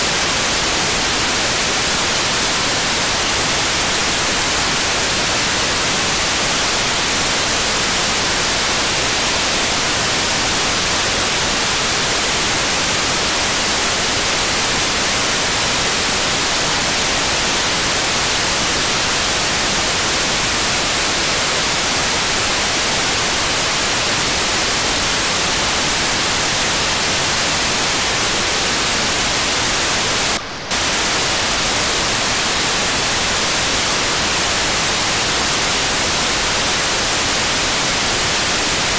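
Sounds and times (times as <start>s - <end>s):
radio receiver hiss: 0.0s - 38.9s
short telemetry data burst: 0.0s - 38.9s.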